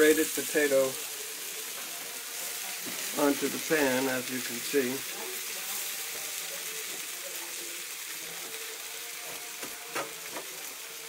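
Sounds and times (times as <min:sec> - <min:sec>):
potato frying in a skillet: 0:00.0 - 0:11.0.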